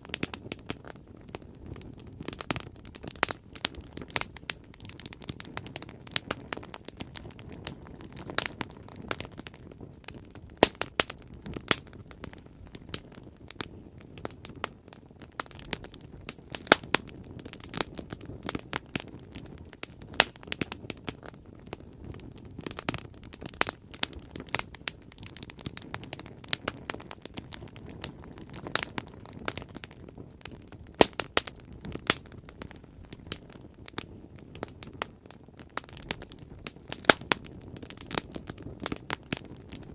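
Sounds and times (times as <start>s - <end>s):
bonfire crackling: 0.0s - 39.9s
low rush of flame: 0.0s - 39.9s.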